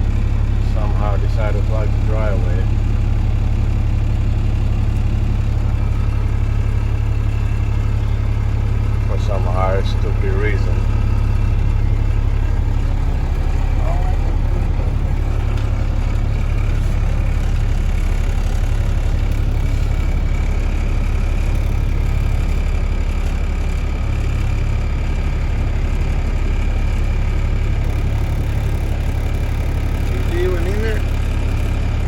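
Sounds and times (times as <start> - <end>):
diesel engine low drone: 0.0 - 32.0.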